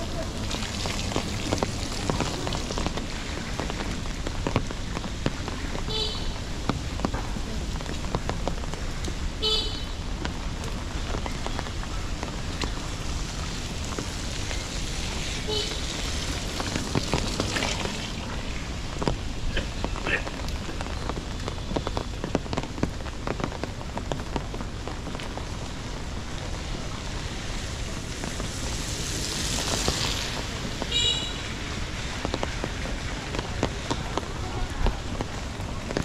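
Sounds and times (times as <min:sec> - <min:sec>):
rain falling on street: 0:00.0 - 0:36.0.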